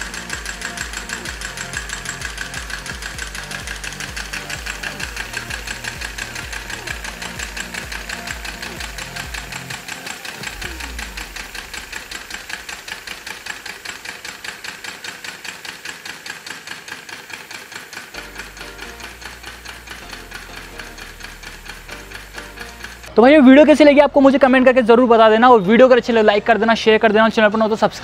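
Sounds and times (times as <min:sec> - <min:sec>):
steam engine running fast: 0:00.0 - 0:23.8.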